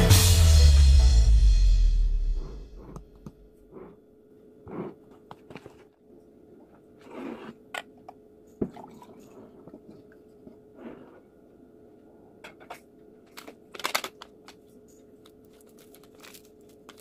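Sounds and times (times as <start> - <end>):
faint steady hum: 0.7 - 17.0.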